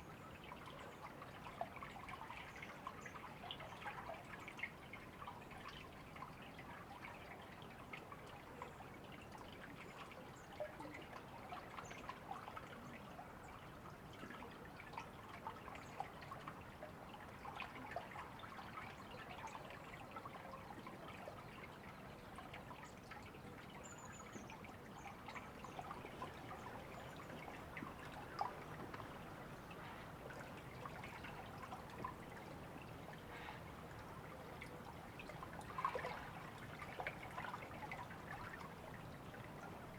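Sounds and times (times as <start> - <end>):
river water trickling: 0.0 - 39.9
water splashes and drips: 0.0 - 39.9.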